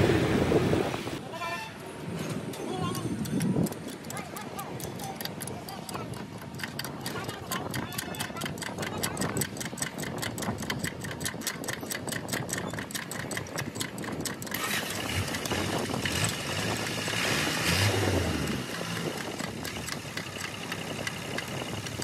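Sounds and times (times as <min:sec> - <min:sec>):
tractor diesel engine running: 0:03.6 - 0:22.0.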